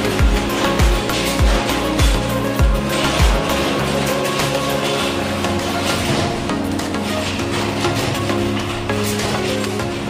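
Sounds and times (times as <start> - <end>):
background music with held chords: 0.0 - 10.0.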